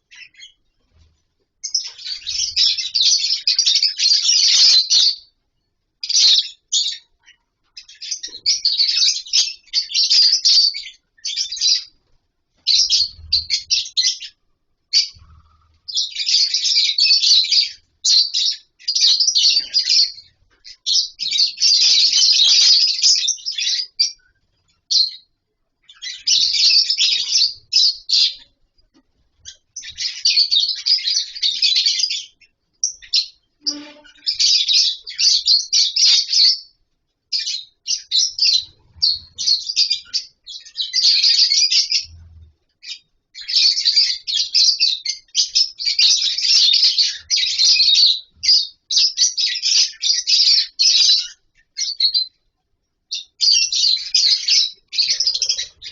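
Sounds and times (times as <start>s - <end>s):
lovebirds chattering: 0.0s - 5.4s, 6.0s - 52.5s, 53.1s - 55.9s.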